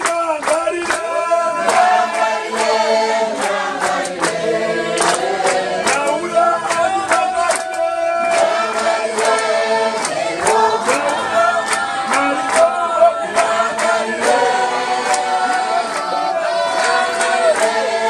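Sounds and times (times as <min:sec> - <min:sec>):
congregation singing a hymn: 0:00.0 - 0:18.0
hand claps: 0:00.0 - 0:18.0.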